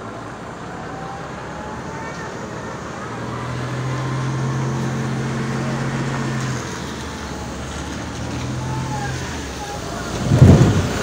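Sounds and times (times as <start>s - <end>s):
bus diesel engine hum: 0.0s - 11.0s
road and cabin noise: 0.0s - 11.0s.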